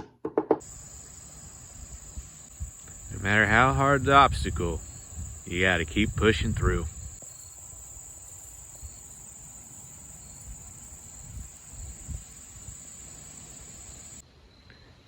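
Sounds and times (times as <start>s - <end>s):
insects trilling: 0.6s - 14.8s.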